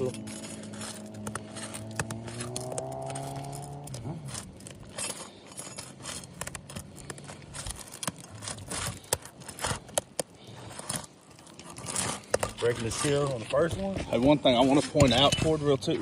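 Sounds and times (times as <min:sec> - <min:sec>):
shingle sealant strip crackling: 0:00.0 - 0:14.9.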